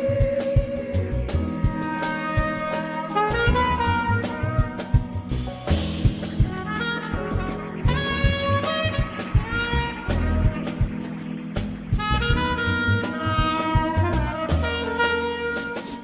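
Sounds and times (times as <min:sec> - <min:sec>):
jazz band playing: 0:00.0 - 0:16.0
jazz horn melody: 0:00.0 - 0:16.0.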